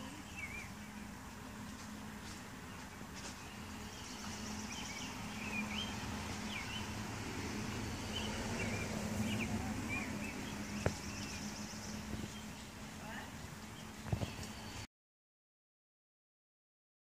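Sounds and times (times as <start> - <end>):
bird chirping: 0.0 - 14.9.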